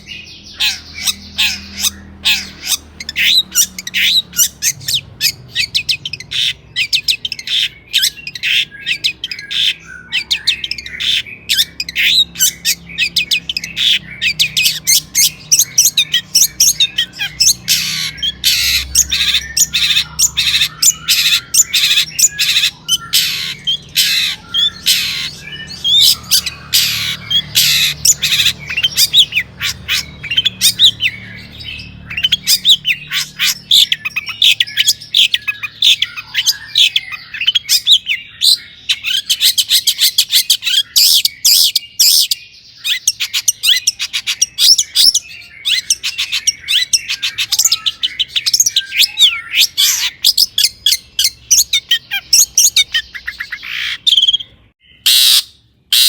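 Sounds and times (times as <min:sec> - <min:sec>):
bird singing harsh chirps: 0:00.0 - 0:56.0.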